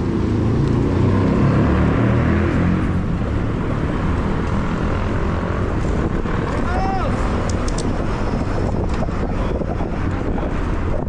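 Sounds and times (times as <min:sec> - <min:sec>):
road and traffic noise: 0:00.0 - 0:11.0
wind buffeting microphone: 0:02.1 - 0:11.0.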